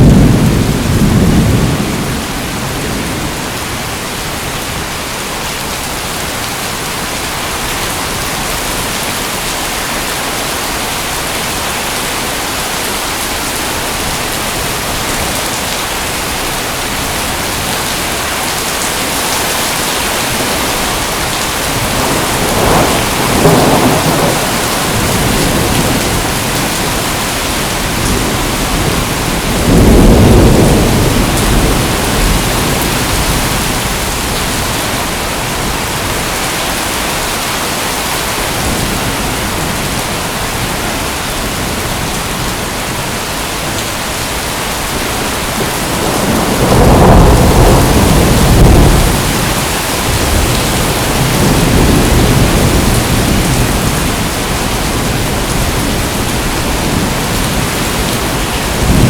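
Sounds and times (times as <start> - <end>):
thunder rumbling: 0.0 - 4.8, 11.5 - 59.0
heavy rain hissing: 0.0 - 59.0.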